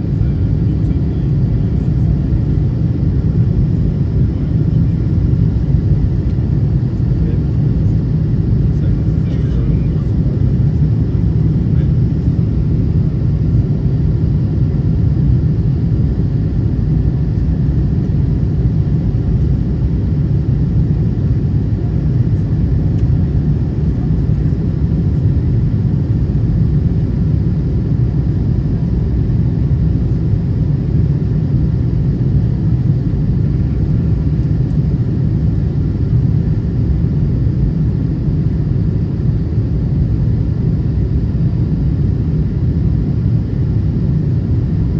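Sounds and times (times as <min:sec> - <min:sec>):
aircraft engines rumbling in cabin: 0:00.0 - 0:44.9.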